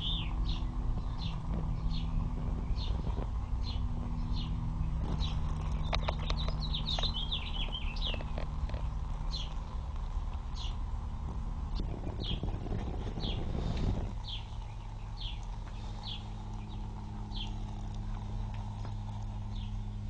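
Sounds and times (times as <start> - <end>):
bird chirping: 0.0 - 20.0
low rumble: 0.0 - 20.0.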